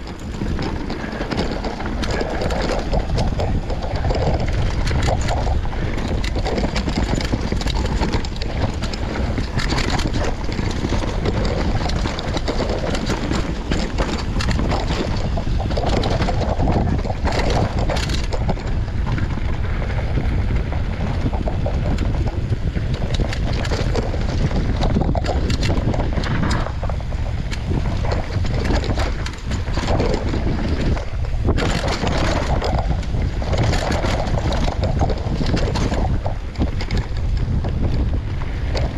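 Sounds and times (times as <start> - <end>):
bike clattering over roots: 0.0 - 38.9
tyres rumbling on dirt: 0.0 - 38.9
wind buffeting microphone: 0.0 - 38.9.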